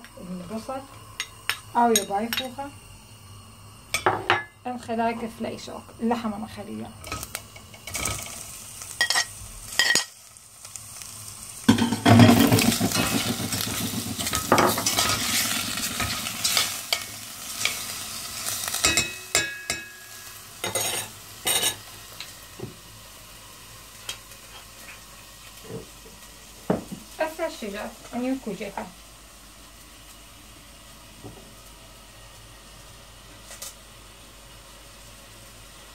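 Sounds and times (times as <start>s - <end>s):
meat sizzling in oil: 0.0s - 35.9s.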